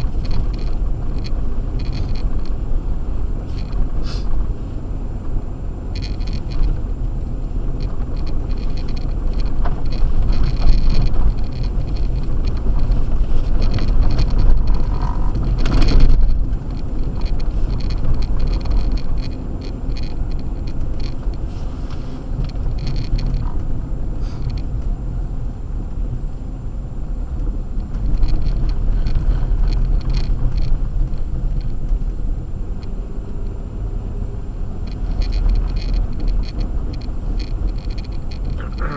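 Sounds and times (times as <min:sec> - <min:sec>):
tyres and engine rumble: 0:00.0 - 0:38.9.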